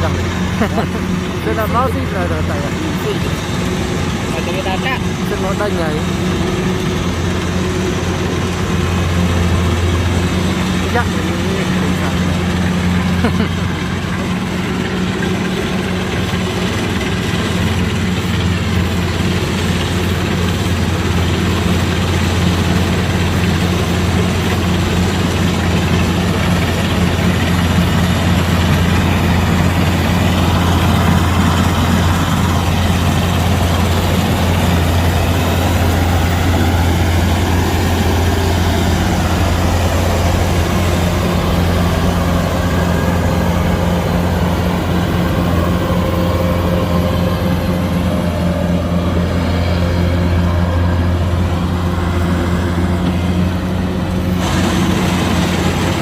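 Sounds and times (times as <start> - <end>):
combine harvester engine droning: 0.0 - 56.0
machinery noise: 0.0 - 56.0.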